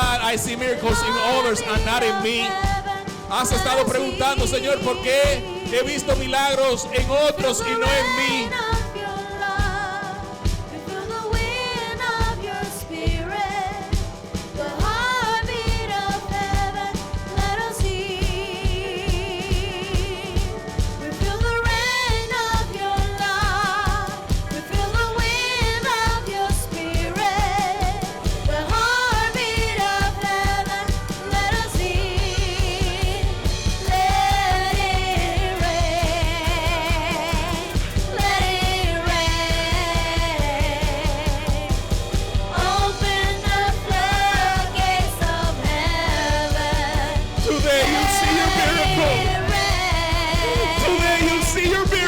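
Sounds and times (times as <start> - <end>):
band with steady beat: 0.0 - 52.0
singers with vibrato: 0.0 - 52.0.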